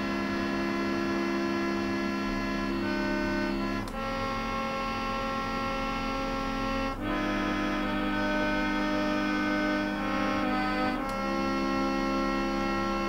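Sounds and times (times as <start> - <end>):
slow held music chords: 0.0 - 13.0.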